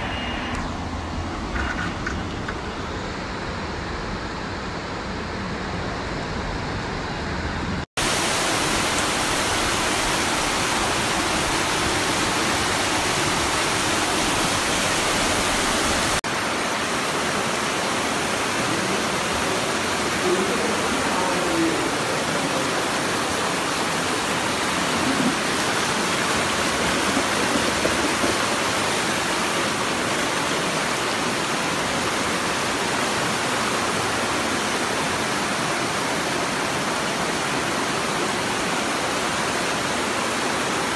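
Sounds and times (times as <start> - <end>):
floodwater rushing: 0.0 - 7.1, 8.0 - 40.9.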